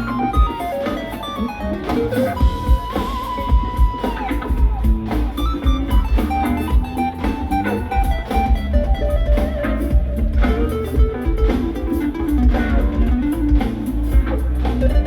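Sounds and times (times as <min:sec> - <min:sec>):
melodic guitar line: 0:00.0 - 0:15.0
rock band playing live: 0:00.0 - 0:15.0.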